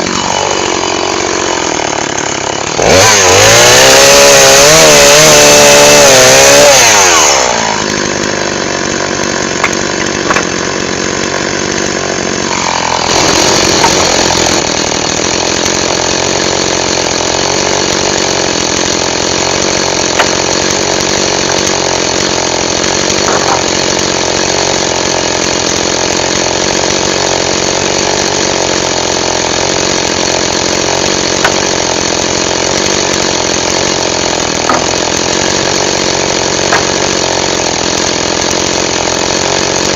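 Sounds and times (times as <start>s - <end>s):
chainsaw idling: 0.0s - 39.9s.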